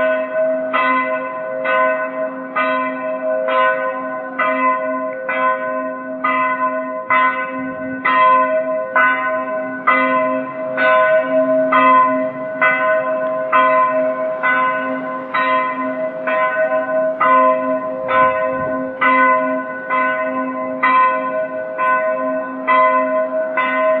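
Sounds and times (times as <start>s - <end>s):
church bell tolling: 0.0s - 24.0s.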